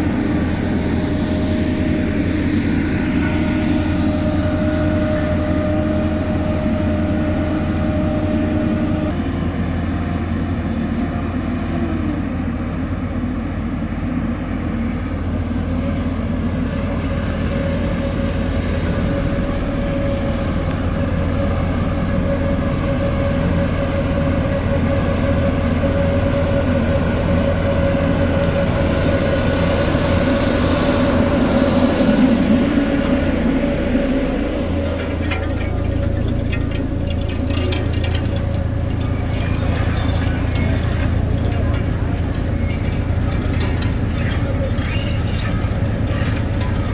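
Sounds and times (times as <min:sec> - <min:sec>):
diesel machinery engine drone: 0:00.0 - 0:46.9
machinery whine: 0:00.0 - 0:46.9.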